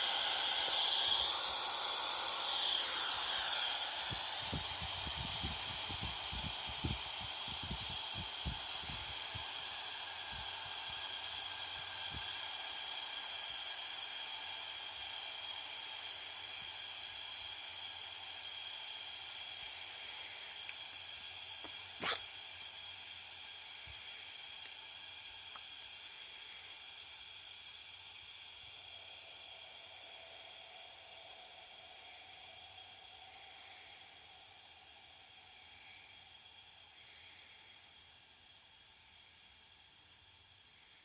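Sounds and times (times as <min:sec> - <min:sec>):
compressed air hissing: 0:00.0 - 0:38.2.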